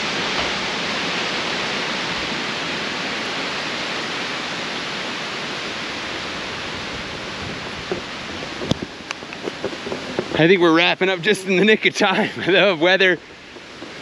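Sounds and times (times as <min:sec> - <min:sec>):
wind rushing through trees: 0:00.0 - 0:14.0.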